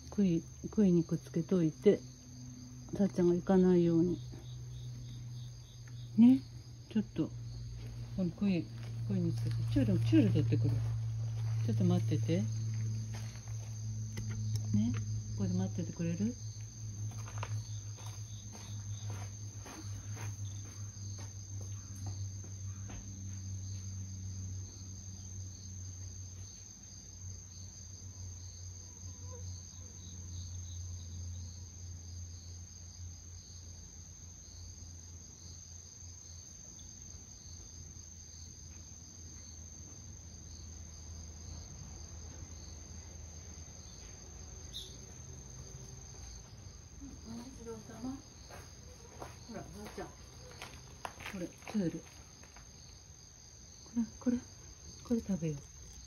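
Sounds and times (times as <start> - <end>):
constant low hum: 0.0 - 56.0
insects trilling: 0.0 - 56.0.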